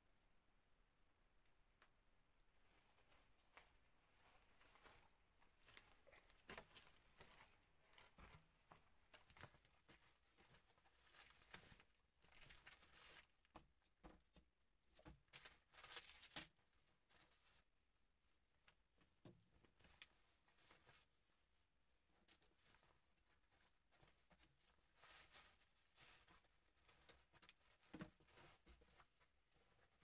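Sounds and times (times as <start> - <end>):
faint rustling and crackling: 1.5 - 17.8, 18.5 - 30.0.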